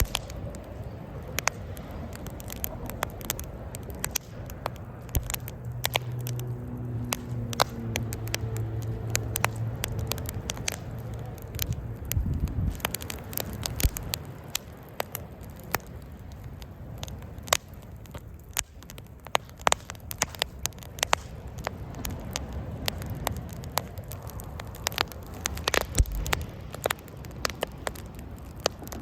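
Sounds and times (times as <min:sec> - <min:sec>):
burning wood popping: 0:00.0 - 0:29.0
campfire crackling: 0:00.0 - 0:29.0
low steady hum: 0:00.0 - 0:29.0.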